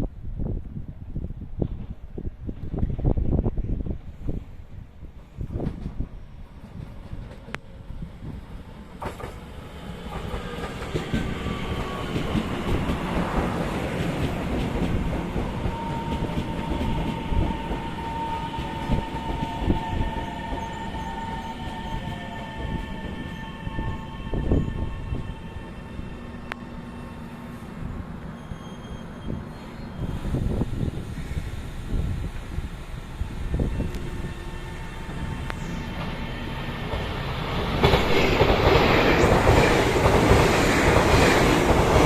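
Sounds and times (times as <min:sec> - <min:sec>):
train rumbling on rails: 0:00.0 - 0:42.0.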